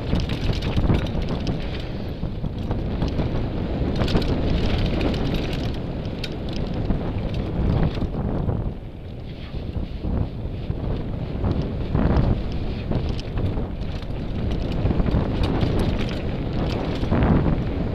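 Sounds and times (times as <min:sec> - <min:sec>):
bike rattling over rough ground: 0:00.0 - 0:17.9
bike tyres on dirt: 0:00.0 - 0:17.9
wind buffeting microphone: 0:00.0 - 0:17.9.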